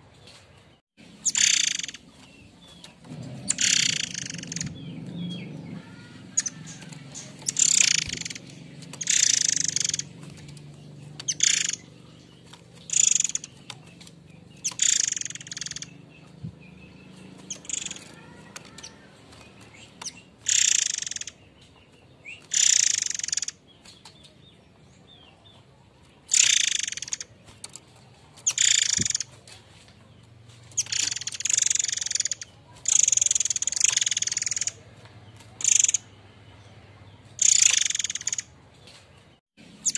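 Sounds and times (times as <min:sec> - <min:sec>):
bird harsh rasping calls: 0:01.1 - 0:21.6, 0:22.2 - 0:24.0, 0:26.2 - 0:27.8, 0:28.4 - 0:29.5, 0:30.6 - 0:38.6.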